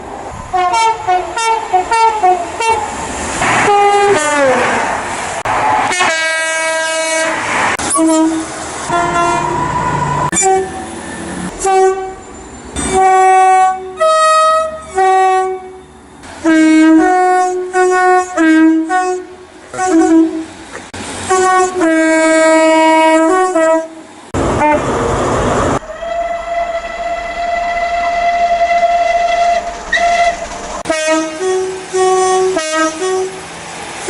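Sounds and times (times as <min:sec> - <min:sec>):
two-tone train horn blasts: 0:00.5 - 0:02.8, 0:03.6 - 0:04.6, 0:05.9 - 0:20.5, 0:21.3 - 0:24.8, 0:25.8 - 0:33.4.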